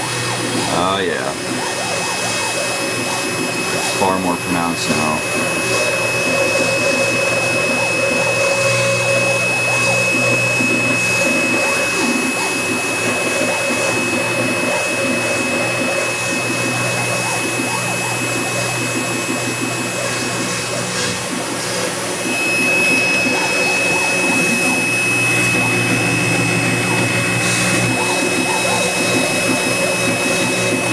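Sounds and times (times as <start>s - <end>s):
mill spindle whine: 0.0s - 30.9s.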